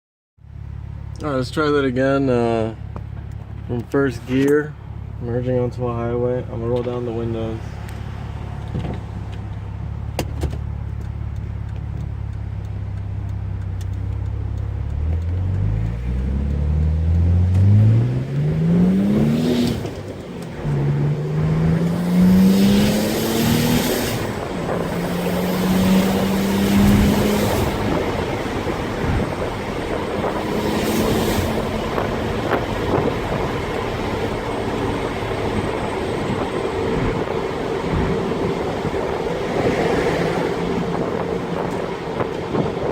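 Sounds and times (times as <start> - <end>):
car engine accelerating: 0.4 - 42.9
road and wind noise: 0.4 - 42.9.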